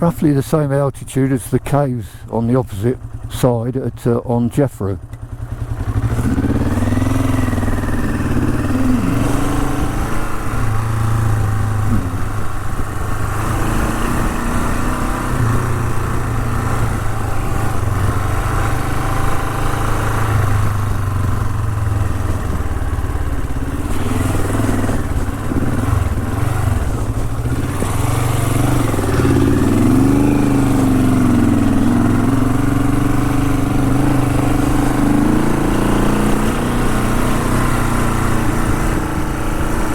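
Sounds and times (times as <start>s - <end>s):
motorcycle engine revving: 0.0s - 3.6s, 5.0s - 39.9s.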